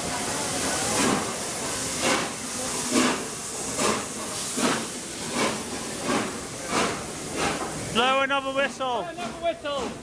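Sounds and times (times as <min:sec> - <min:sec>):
steam hissing: 0:00.0 - 0:10.0
steam locomotive exhaust chuffing: 0:00.0 - 0:10.0.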